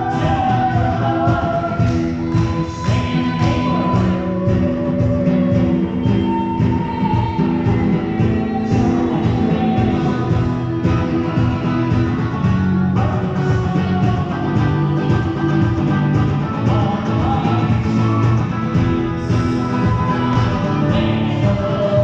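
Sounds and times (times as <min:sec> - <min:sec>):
acoustic guitar: 0:00.0 - 0:22.0.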